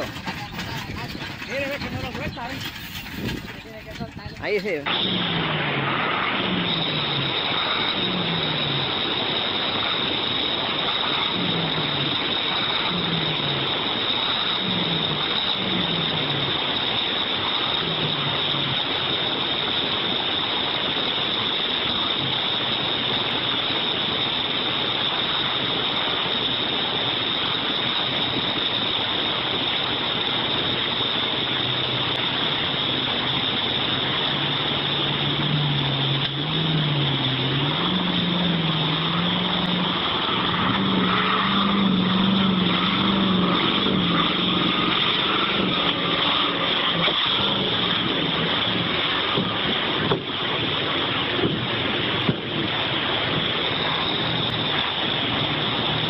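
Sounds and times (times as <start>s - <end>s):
river water rushing: 0.0s - 0.6s, 2.7s - 56.0s
heavy truck engine labouring: 0.0s - 56.0s.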